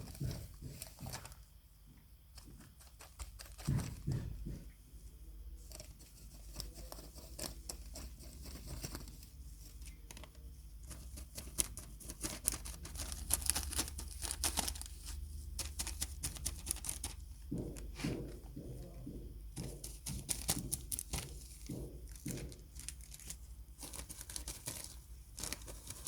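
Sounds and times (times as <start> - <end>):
scratchy clicks and scrapes: 0.0 - 1.5, 2.3 - 4.8, 5.6 - 26.0
low steady hum: 0.0 - 26.0.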